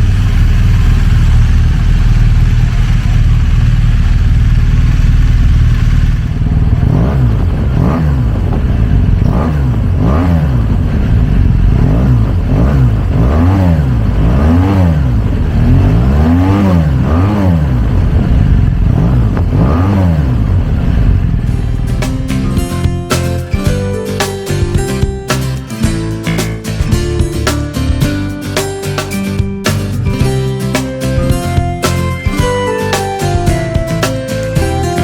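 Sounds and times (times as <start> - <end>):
motorcycle engine revving: 0.0 - 28.1.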